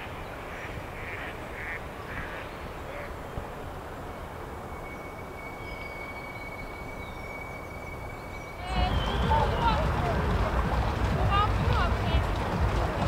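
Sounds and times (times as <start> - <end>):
water bird calling: 0.0 - 13.0.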